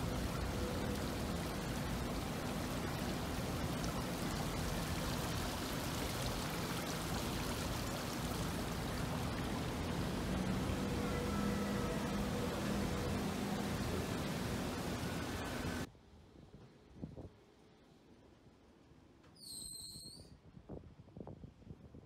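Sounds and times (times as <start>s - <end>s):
rushing hiss of outdoor ambience: 0.0s - 21.7s.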